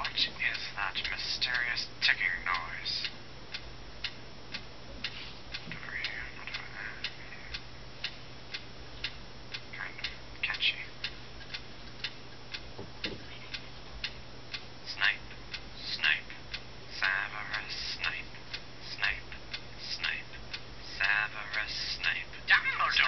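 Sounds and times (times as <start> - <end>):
steady ticking: 0.0 - 4.7, 5.5 - 23.0.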